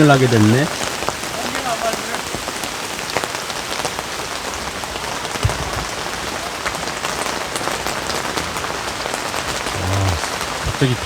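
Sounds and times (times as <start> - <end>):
rain downpour hissing: 0.0 - 11.0.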